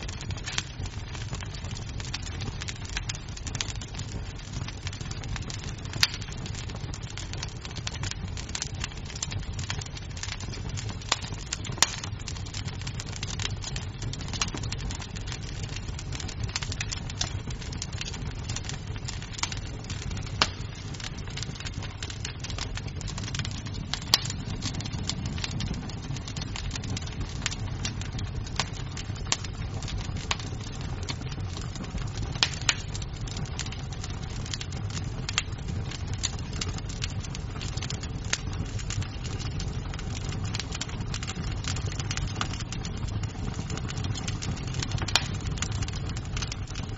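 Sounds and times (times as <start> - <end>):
burning wood popping: 0.0 - 46.9
wood fire crackling: 0.0 - 46.9.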